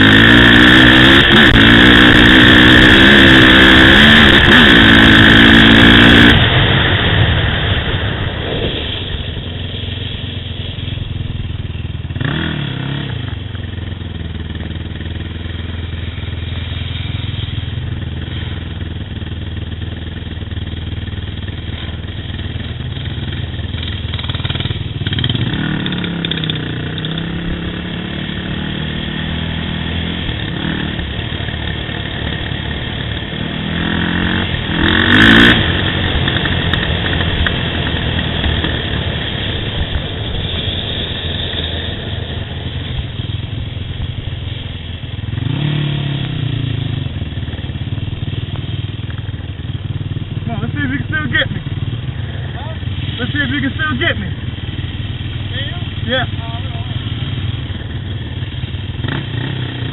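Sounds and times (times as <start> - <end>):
atv engine revving and idling: 0.0 - 7.7, 8.5 - 59.9.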